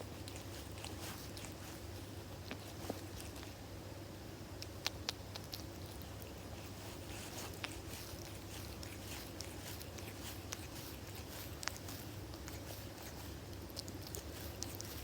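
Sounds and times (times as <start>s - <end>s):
kitten purring: 0.0s - 3.8s, 4.5s - 15.0s.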